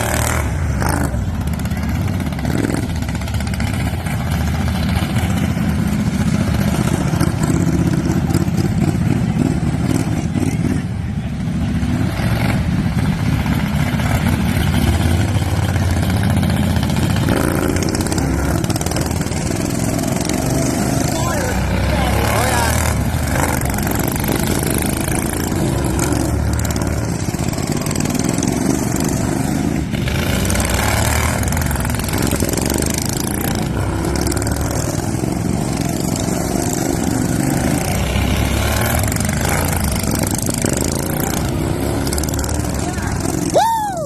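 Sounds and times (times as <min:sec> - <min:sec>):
lawn tractor engines racing: 0:00.0 - 0:44.0.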